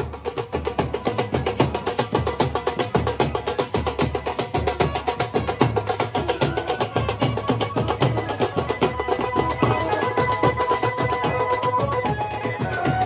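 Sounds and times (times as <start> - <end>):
music with fast drumming: 0.0 - 13.0.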